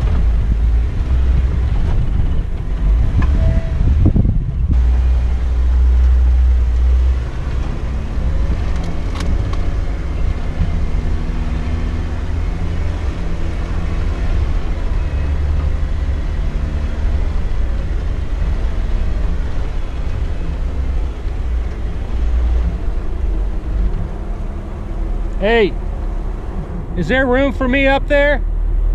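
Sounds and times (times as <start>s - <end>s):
engine running at low revs: 0.0s - 28.9s.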